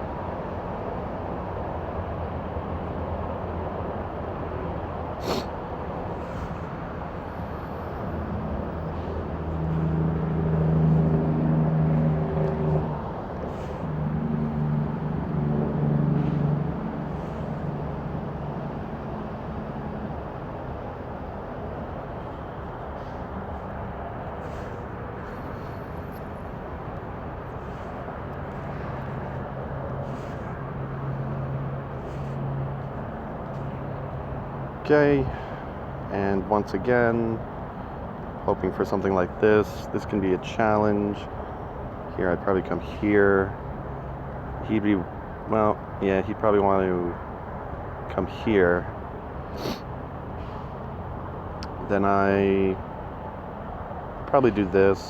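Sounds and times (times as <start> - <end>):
road traffic noise: 0.0 - 55.0
vehicle engine: 4.4 - 55.0.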